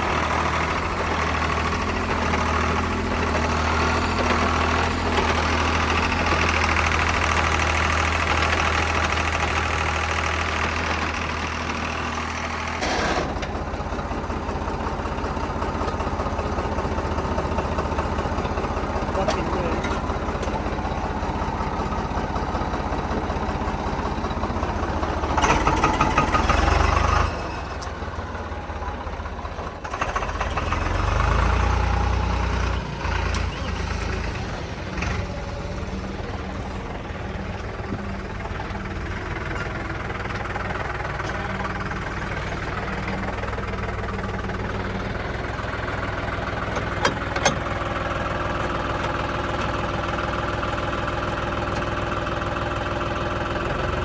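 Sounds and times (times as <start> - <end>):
tractor diesel engines knocking drone: 0.0 - 54.0.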